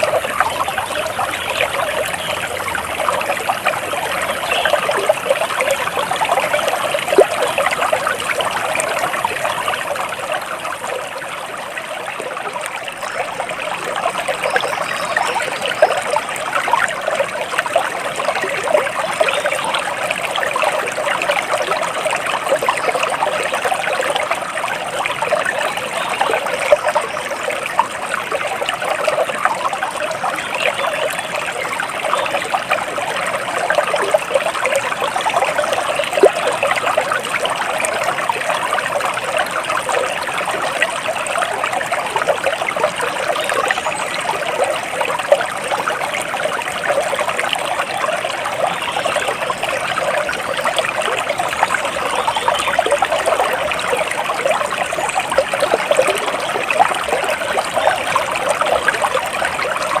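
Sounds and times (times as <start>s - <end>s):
stream trickling and babbling: 0.0s - 60.0s.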